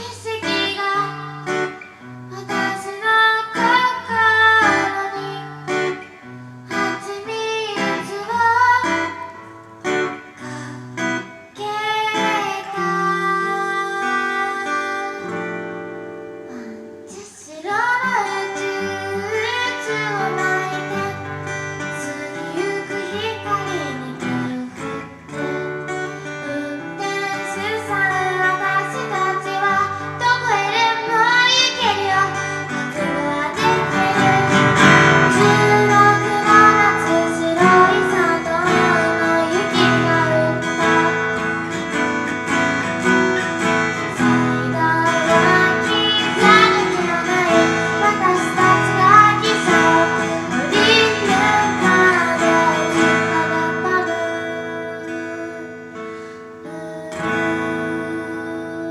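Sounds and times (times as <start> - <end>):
woman singing: 0.0 - 58.9.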